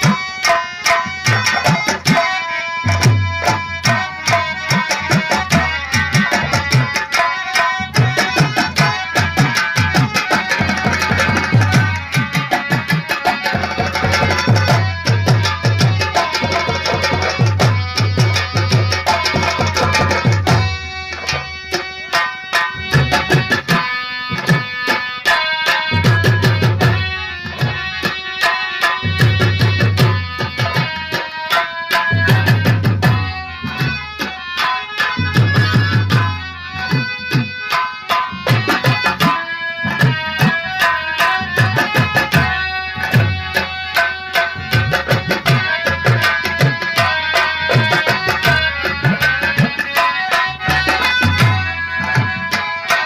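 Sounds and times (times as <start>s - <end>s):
hand drums beating: 0.0s - 53.0s
held melody line: 0.0s - 53.0s.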